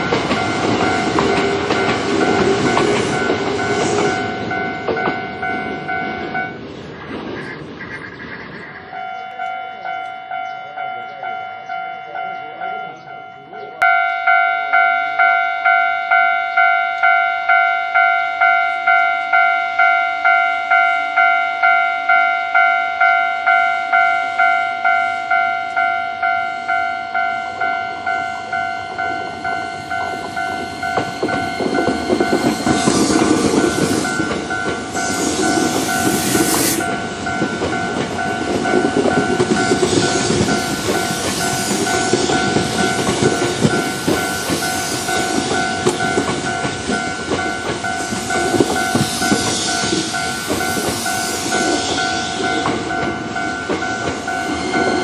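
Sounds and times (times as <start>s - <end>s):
level crossing warning bell: 0.0s - 6.7s, 8.9s - 55.0s
train wheels rumbling on rails: 0.0s - 11.4s, 12.0s - 55.0s.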